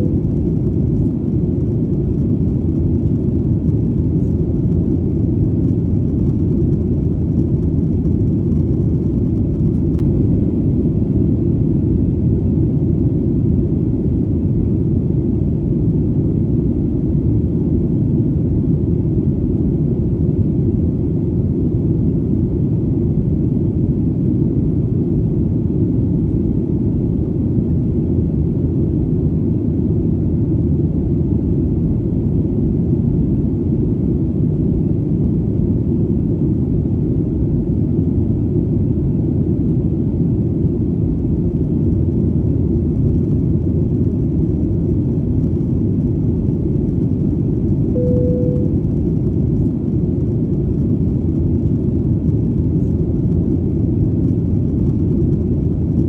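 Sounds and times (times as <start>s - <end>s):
airplane engine rumble: 0.0s - 56.0s.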